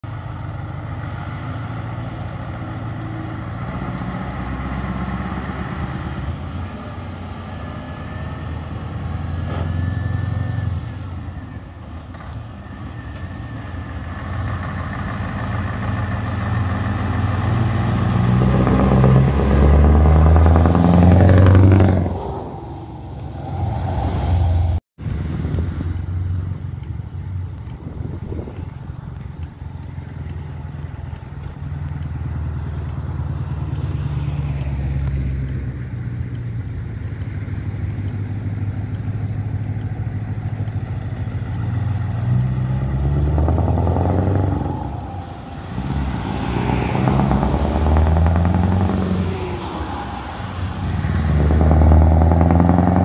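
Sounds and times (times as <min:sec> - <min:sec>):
truck engine passing by: 0:00.0 - 0:53.0.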